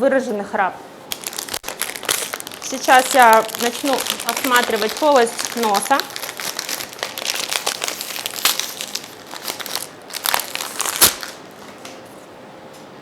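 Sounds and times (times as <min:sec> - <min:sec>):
crinkling handling noise: 0:01.0 - 0:12.3.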